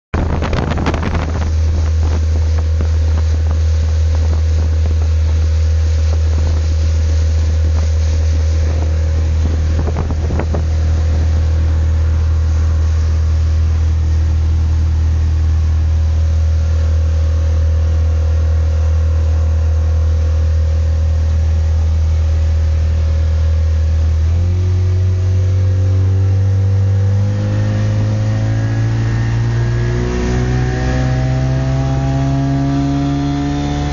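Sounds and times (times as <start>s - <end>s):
outboard motor running: 0.2s - 33.9s.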